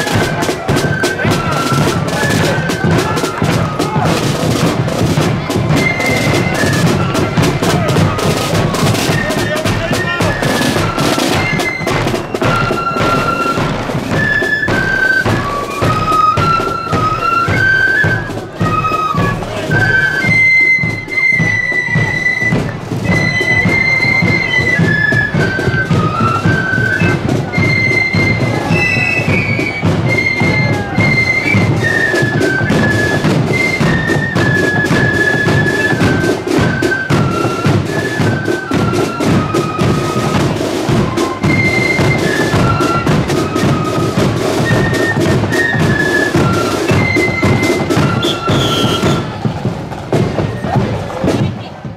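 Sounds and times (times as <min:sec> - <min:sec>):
flutes playing a high melody: 0:00.0 - 0:49.8
marching drums: 0:00.0 - 0:51.9.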